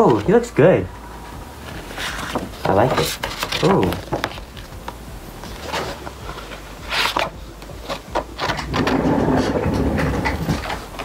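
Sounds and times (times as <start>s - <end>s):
photo album pages rustling: 0.0s - 0.6s, 1.6s - 11.0s.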